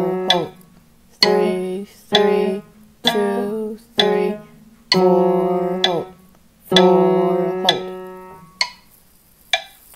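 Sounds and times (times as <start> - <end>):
piano ding-dong notes: 0.0 - 8.9.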